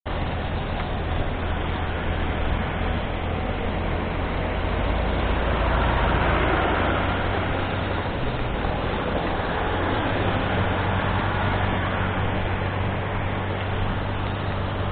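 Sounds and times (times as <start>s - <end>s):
motorcycle engine humming: 0.0s - 14.9s
wind and road noise: 0.0s - 14.9s.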